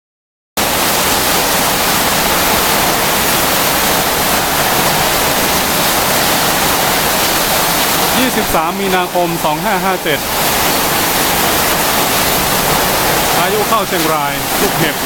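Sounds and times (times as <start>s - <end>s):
heavy rain pouring: 0.6s - 15.0s.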